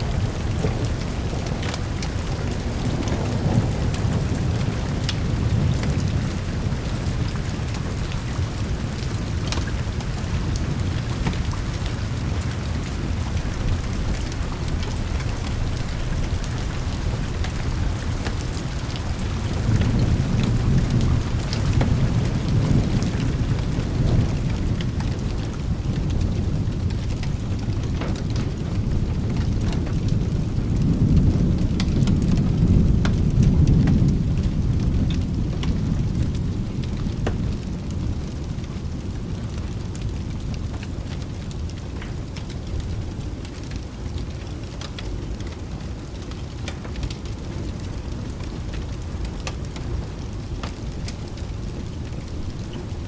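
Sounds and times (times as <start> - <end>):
low rolling thunder: 0.0 - 53.0
steady rain: 0.0 - 53.0.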